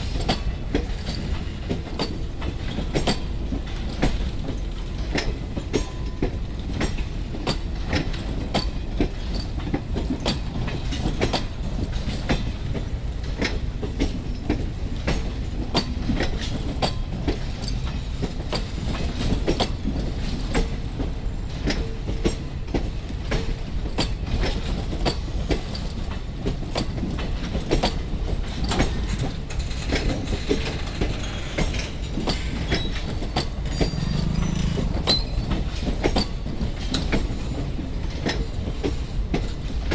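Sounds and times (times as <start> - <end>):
train rumble: 0.0 - 39.9
train wheels clattering over rail joints: 0.0 - 39.9.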